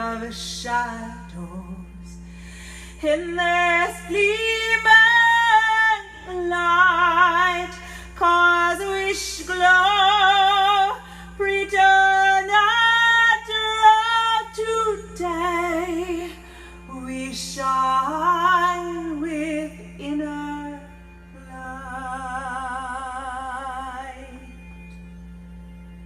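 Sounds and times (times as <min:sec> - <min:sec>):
woman singing with vibrato: 0:00.0 - 0:02.2, 0:03.0 - 0:24.6
steady low drone: 0:00.0 - 0:26.0.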